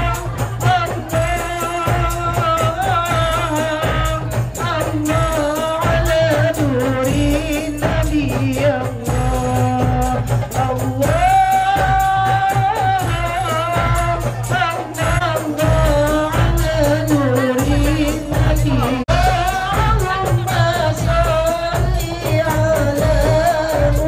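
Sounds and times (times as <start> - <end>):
frame drums beating: 0.0 - 24.0
woman singing into microphone: 0.0 - 24.0.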